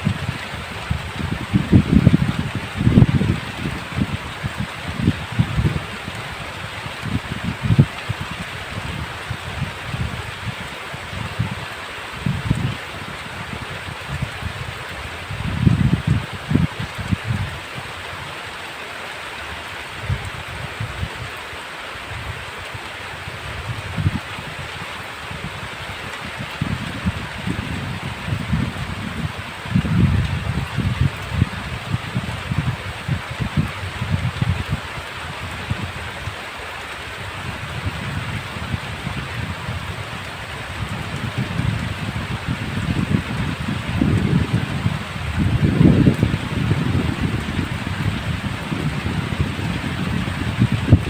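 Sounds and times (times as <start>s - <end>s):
low rumbling gusts: 0.0s - 18.3s, 22.1s - 51.0s
heavy rain hissing: 0.0s - 51.0s.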